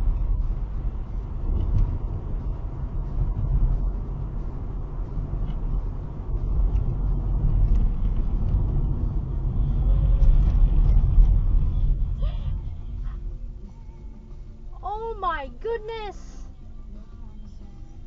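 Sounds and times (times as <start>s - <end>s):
vehicle rumbling on road: 0.0s - 18.0s.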